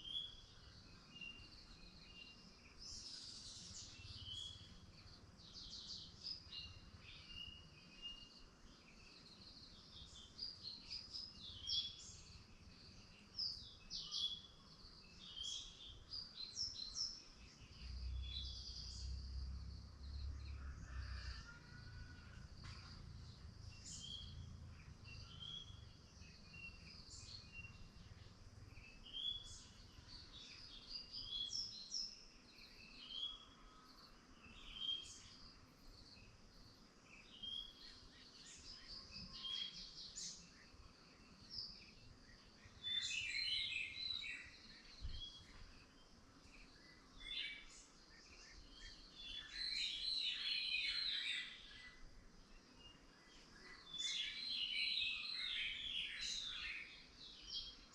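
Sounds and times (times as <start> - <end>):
wild birds chirping: 0.0 - 57.9.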